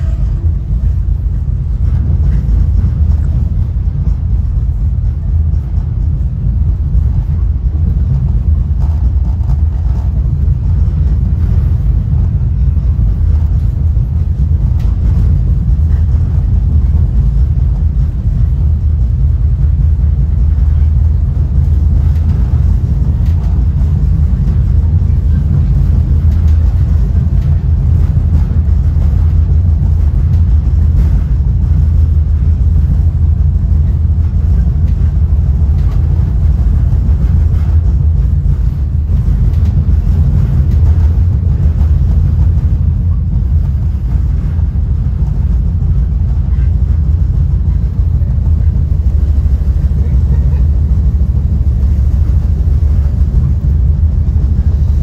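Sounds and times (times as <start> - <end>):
passenger train car rumbling: 0.0 - 55.0.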